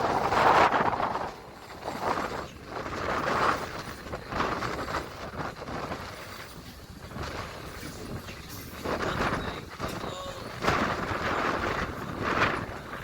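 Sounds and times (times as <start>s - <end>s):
steam train running: 0.0s - 13.0s.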